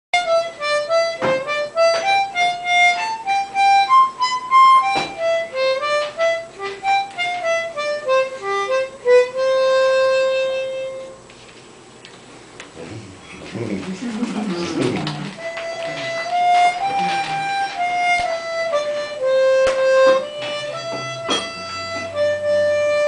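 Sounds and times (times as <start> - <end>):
harmonica playing a tune: 0.2 - 11.3, 14.5 - 23.0.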